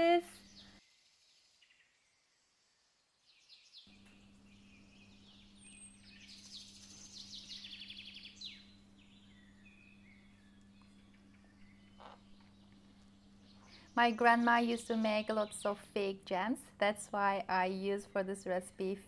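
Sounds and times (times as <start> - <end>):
faint birds chirping and trilling: 0.0 - 19.0
low steady hum: 2.3 - 19.0.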